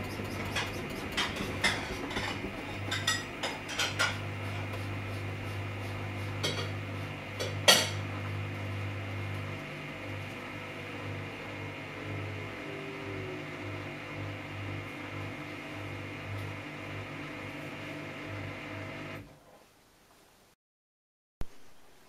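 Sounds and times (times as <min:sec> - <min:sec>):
washing machine humming: 0:00.0 - 0:19.4.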